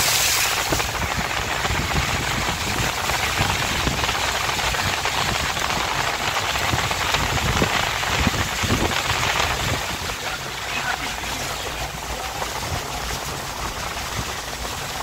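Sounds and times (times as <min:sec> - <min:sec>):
rain and water hissing: 0:00.0 - 0:15.0.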